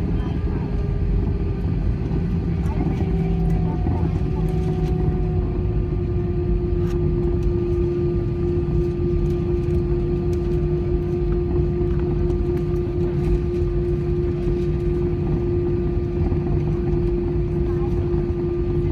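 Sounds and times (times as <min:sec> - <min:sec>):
jet engines droning: 0:00.0 - 0:18.9.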